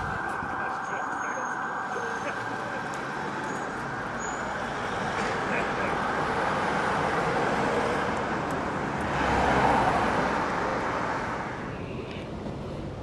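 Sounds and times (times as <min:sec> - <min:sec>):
street traffic hiss: 0:00.0 - 0:13.0.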